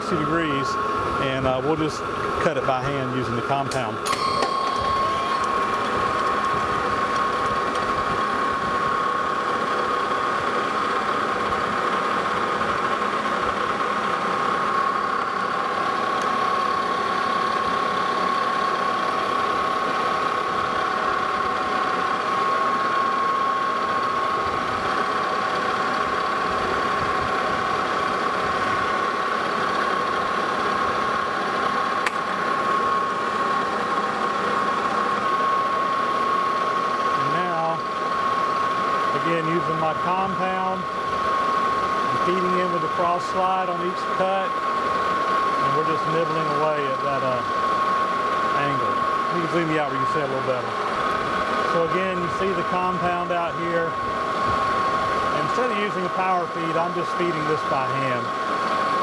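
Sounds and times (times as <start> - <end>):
high-pitched cutting whine: 0.0 - 59.0
metal lathe running: 0.0 - 59.0.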